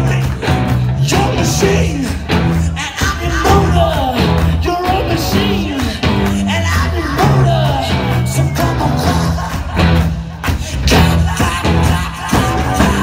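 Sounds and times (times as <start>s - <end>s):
person singing: 0.0s - 13.0s
rock band playing live: 0.0s - 13.0s.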